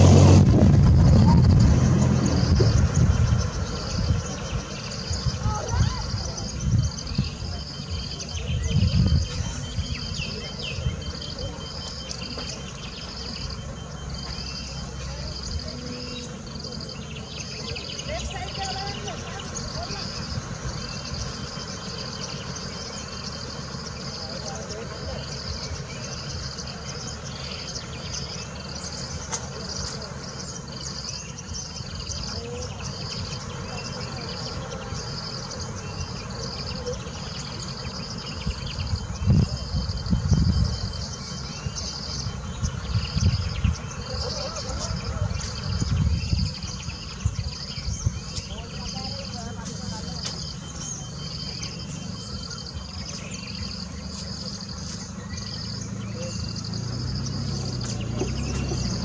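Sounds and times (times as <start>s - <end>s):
bus engine idling: 0.0s - 59.0s
low steady rumble: 0.0s - 59.0s
insects chirping: 0.9s - 59.0s.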